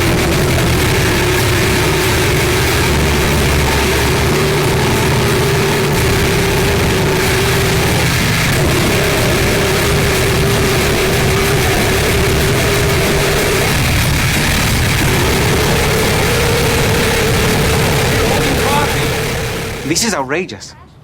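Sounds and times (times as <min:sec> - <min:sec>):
harsh distorted noise music: 0:00.0 - 0:20.2.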